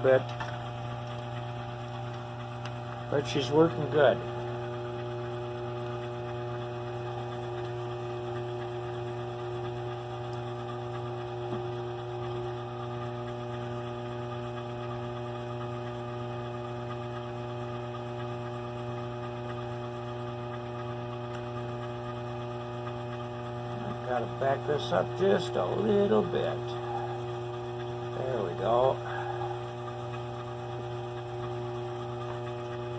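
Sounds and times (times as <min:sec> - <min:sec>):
lathe motor humming: 0:00.0 - 0:32.9.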